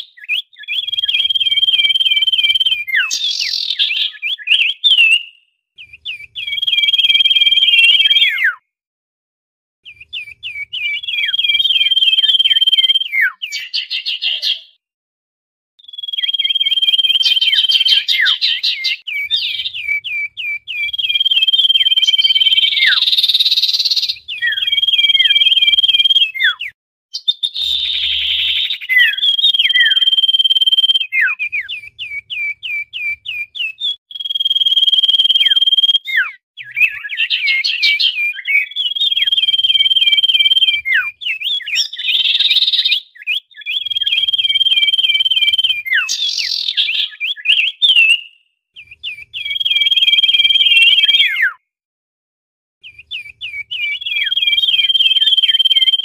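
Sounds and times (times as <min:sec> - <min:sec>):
bird calling: 0:00.0 - 0:08.6, 0:09.9 - 0:14.8, 0:15.8 - 0:51.6, 0:52.8 - 0:56.0.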